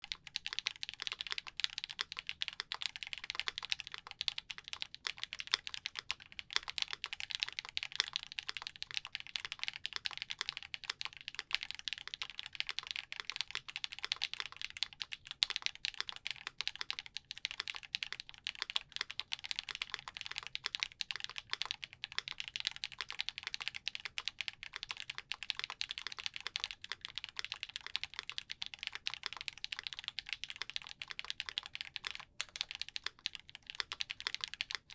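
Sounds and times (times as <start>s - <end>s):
fast typing on mechanical keyboard: 0.0s - 34.9s.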